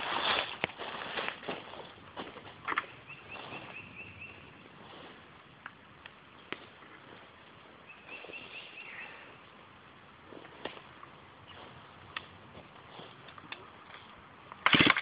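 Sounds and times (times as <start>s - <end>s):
faint woodland ambience: 0.0s - 15.0s.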